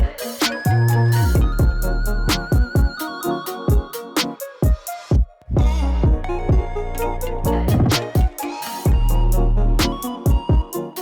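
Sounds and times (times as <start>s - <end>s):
electronic music with deep bass: 0.0s - 4.4s, 5.5s - 11.0s.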